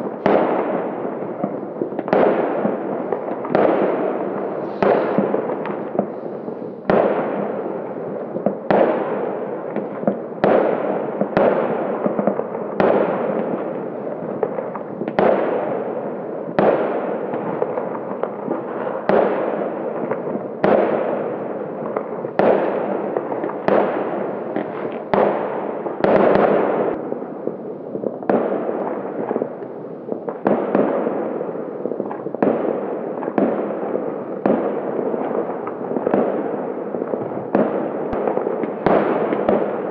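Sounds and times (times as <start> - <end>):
firecrackers crackling: 0.0 - 39.9
firework bangs: 0.0 - 39.9.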